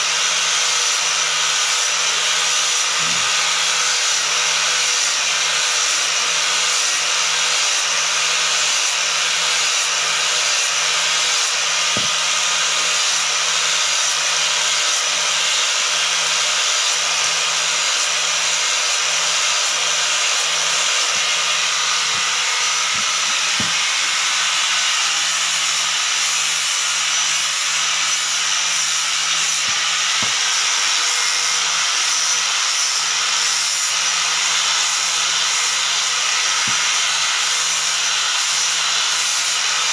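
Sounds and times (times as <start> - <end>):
angle grinder grinding wood: 0.0 - 39.9.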